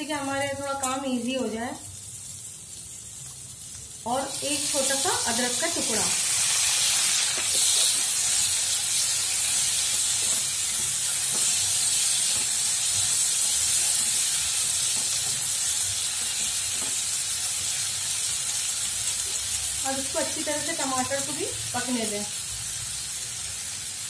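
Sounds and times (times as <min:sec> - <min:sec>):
tomatoes sizzling in hot oil: 0:00.0 - 0:24.0.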